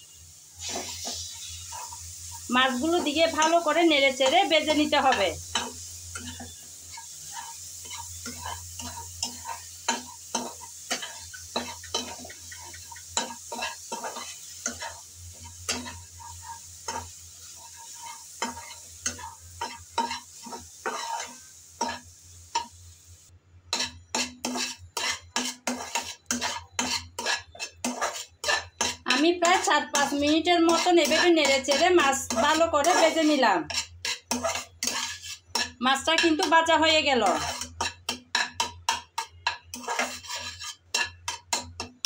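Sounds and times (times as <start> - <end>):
fish sizzling: 0.0 - 42.0
spatula scraping metal pan: 0.6 - 22.8, 23.7 - 42.0.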